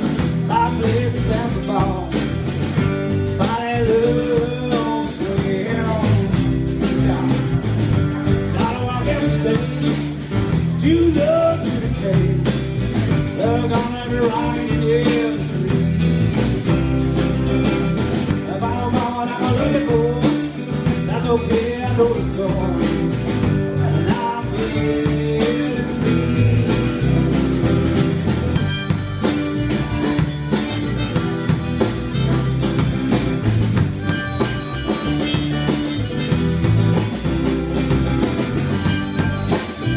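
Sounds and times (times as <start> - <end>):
drums keeping a beat: 0.0 - 39.9
electric guitar: 0.0 - 39.9
lead guitar with bending notes: 0.0 - 39.9
strummed acoustic guitar: 0.0 - 39.9.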